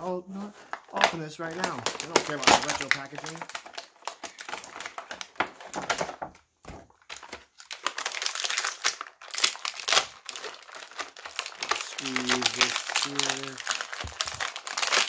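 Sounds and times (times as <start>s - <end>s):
packaging crackling and tearing: 0.6s - 6.2s, 6.9s - 15.0s.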